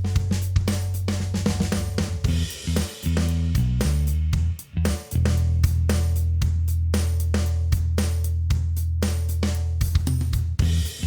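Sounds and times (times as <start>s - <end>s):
bass line: 0.0s - 11.0s
drum kit: 0.0s - 11.0s.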